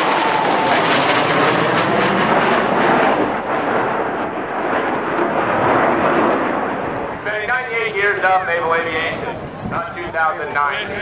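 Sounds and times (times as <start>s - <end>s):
jet flying past overhead: 0.0s - 11.0s.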